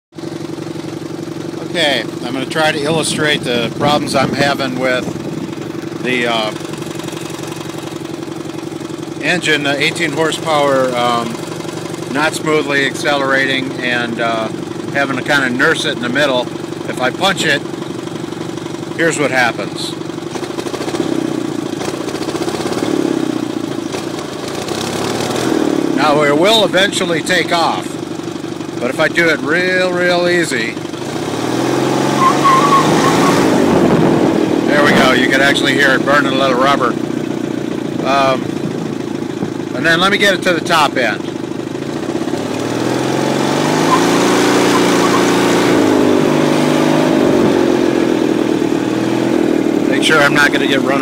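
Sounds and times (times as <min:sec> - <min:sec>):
go-kart engine at full throttle: 0:00.2 - 0:51.0.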